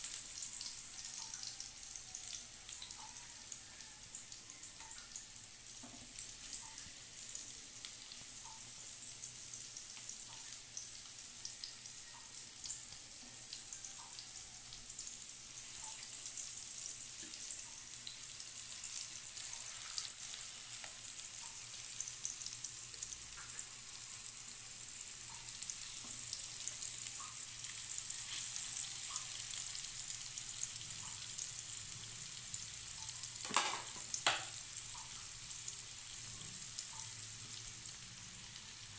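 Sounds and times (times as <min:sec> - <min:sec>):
food deep-frying in oil: 0:00.0 - 0:38.9.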